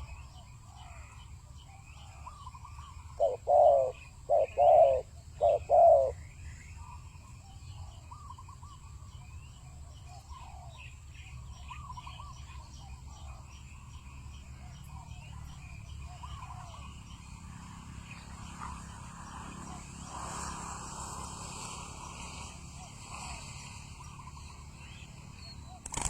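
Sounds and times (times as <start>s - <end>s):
birds chirping and calling: 0.0s - 20.0s, 22.8s - 26.0s.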